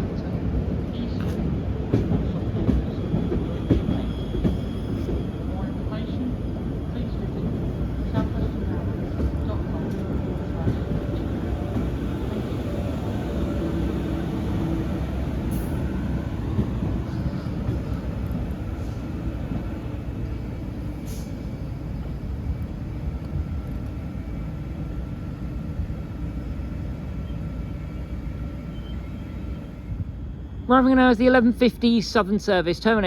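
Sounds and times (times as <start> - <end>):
train low rumble: 0.0 - 33.0.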